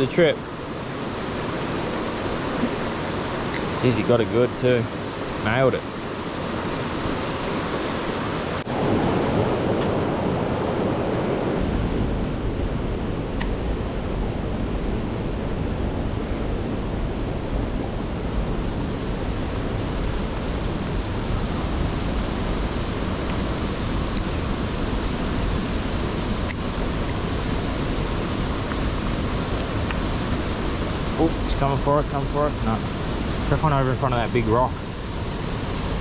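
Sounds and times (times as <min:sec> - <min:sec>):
river water rushing over rocks: 0:00.0 - 0:11.4, 0:18.2 - 0:36.0.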